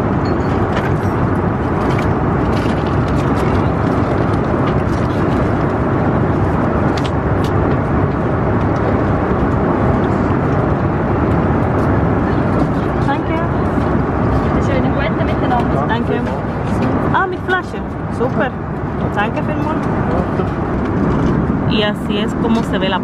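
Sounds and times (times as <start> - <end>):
airliner cabin noise: 0.0 - 23.0.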